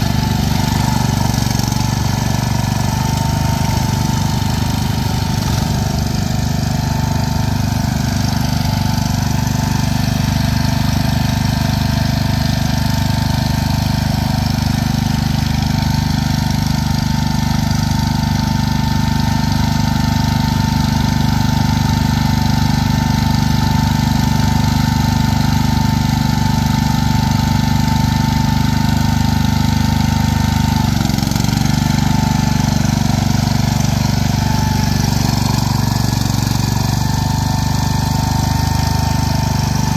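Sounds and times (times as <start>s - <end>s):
small tractor engines running: 0.0s - 39.9s.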